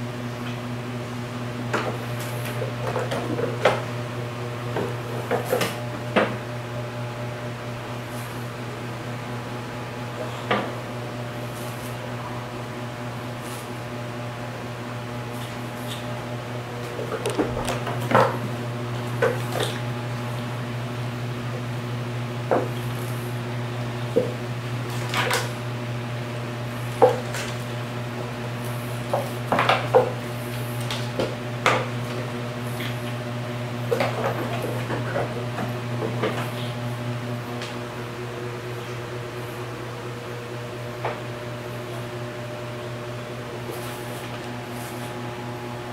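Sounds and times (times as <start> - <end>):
appliance motor humming: 0.0 - 45.9.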